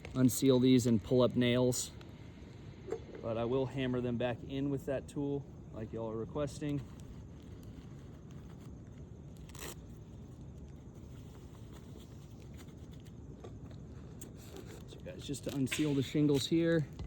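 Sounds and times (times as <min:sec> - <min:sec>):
faint outdoor background noise: 0:00.0 - 0:17.0.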